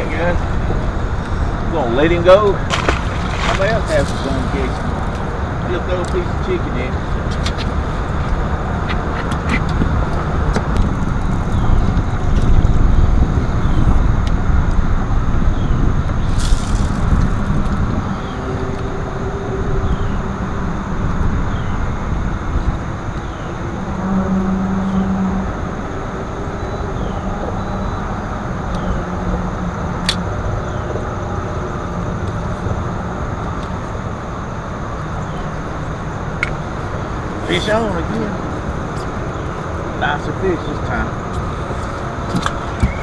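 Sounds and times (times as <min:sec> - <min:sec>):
boat motor rumbling: 0:00.0 - 0:14.2, 0:22.1 - 0:43.0
wind noise on microphone: 0:00.0 - 0:43.0.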